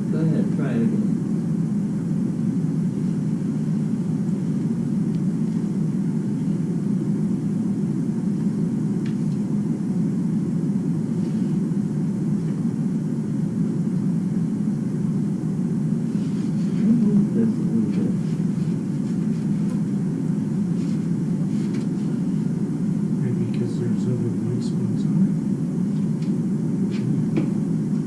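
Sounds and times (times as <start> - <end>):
low rumbling hum: 0.0 - 28.0.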